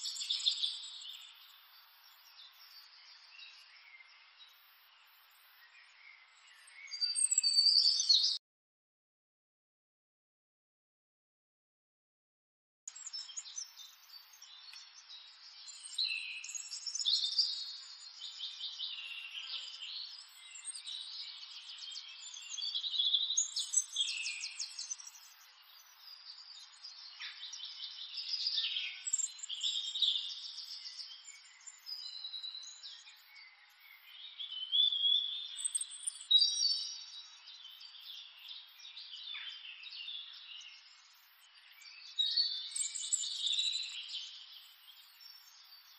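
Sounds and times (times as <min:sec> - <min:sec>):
birds chirping and trilling: 0:00.1 - 0:08.4, 0:12.9 - 0:45.9.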